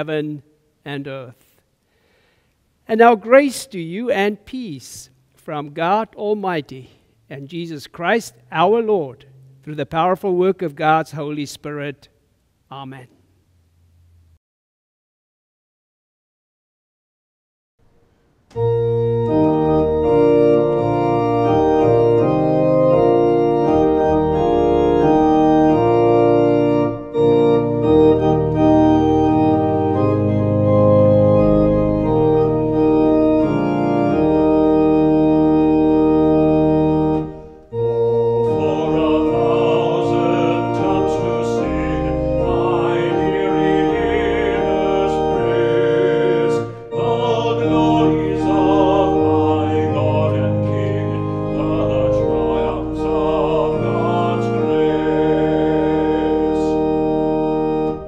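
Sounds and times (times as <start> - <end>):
organ playing chords: 2.9 - 11.9, 18.5 - 58.0.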